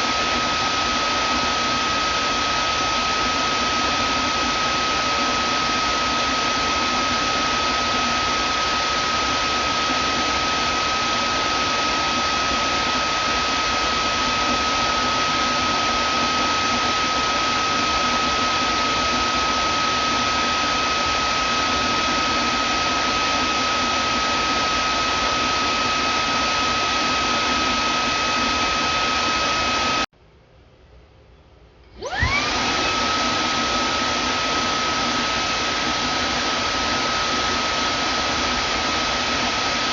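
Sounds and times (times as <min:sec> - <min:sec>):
vacuum cleaner motor whine: 0:00.0 - 0:30.1, 0:31.9 - 0:39.9.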